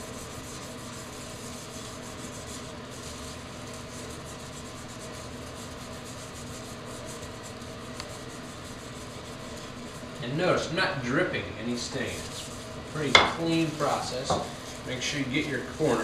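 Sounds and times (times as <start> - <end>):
cloth rag scrubbing wood: 0.0 - 16.0.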